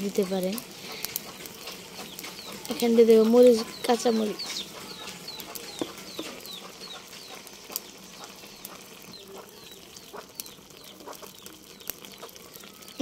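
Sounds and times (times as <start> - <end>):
bird chirping: 0.8 - 13.0.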